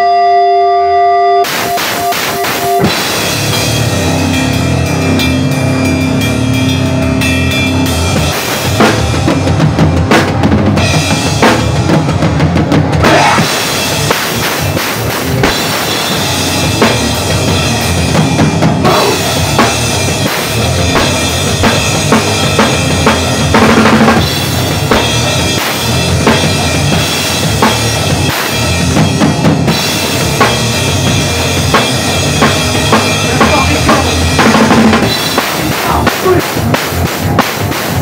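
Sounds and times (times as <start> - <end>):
bass guitar: 0.0 - 38.0
electric guitars: 0.0 - 38.0
drum kit: 1.4 - 38.0.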